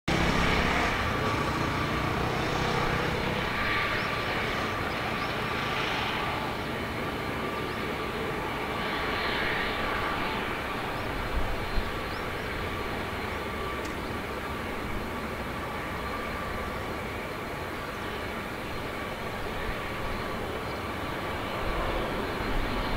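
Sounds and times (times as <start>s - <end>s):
distant jet airliner engines: 0.1s - 22.9s.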